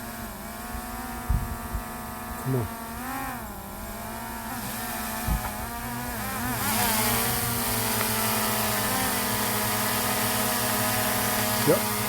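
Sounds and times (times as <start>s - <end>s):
drone propeller whine: 0.0s - 12.0s.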